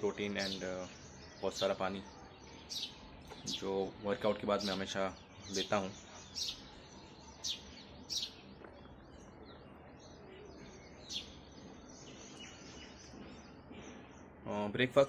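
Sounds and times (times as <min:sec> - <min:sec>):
bird chirping: 0:00.0 - 0:15.0
faint background noise: 0:00.0 - 0:15.0.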